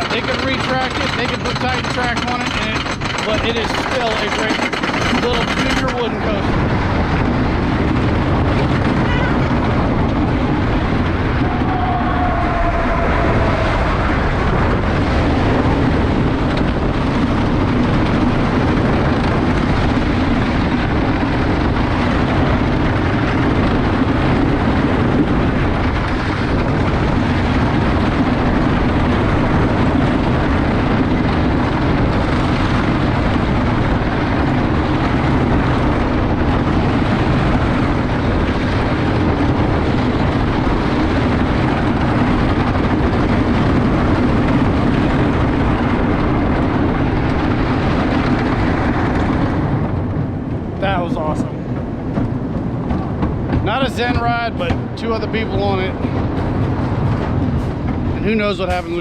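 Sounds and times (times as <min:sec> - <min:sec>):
roller coaster rumbling on track: 0:00.0 - 0:59.0.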